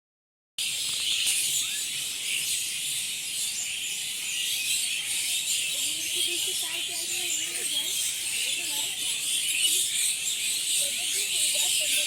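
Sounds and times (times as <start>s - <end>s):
flock of birds chirping: 0.6s - 12.0s.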